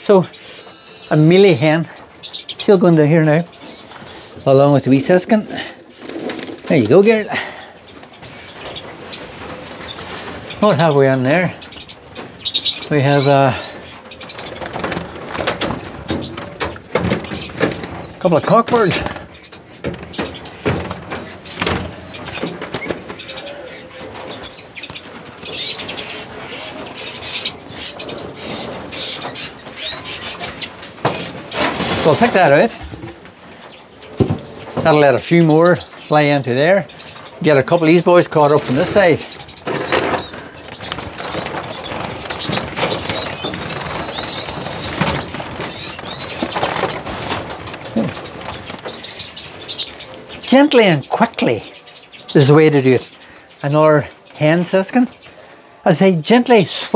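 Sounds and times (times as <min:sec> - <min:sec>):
finches chirping: 0:00.0 - 0:32.8, 0:34.8 - 0:56.9.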